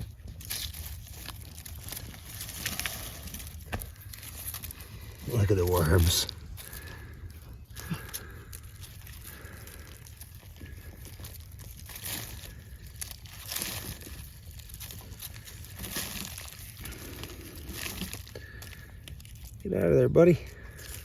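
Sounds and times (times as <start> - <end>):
scrapes in soil: 0.0 - 19.9
low steady rumble: 0.0 - 21.0
soil rustling and crumbling: 0.0 - 21.0.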